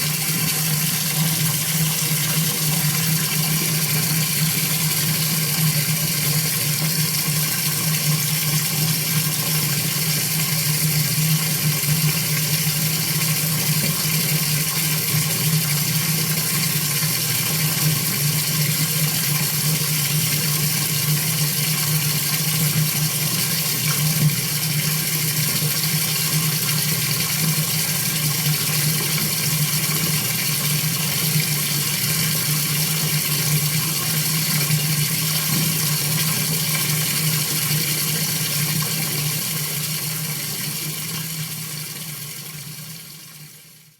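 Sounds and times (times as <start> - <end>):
shower water splashing: 0.0 - 42.7.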